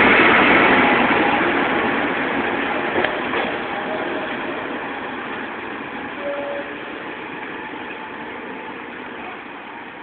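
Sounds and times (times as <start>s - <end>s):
railway track tamper rumbling: 0.0s - 10.0s.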